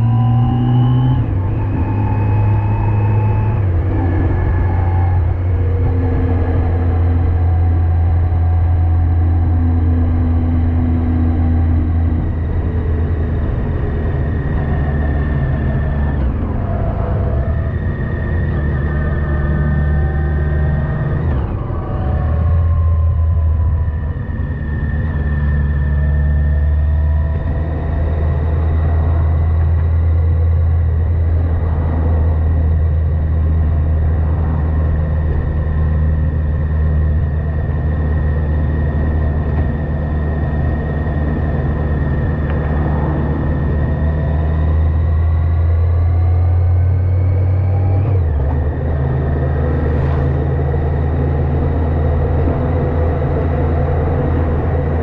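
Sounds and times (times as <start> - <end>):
motorcycle engine droning: 0.0 - 55.0.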